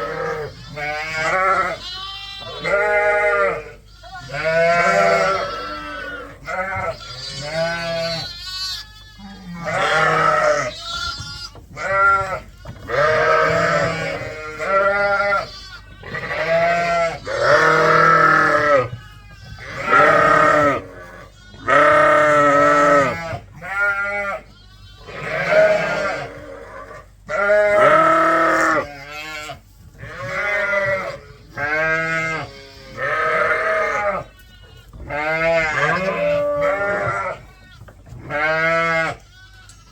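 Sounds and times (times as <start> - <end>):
sheep bleating: 0.0 - 39.9.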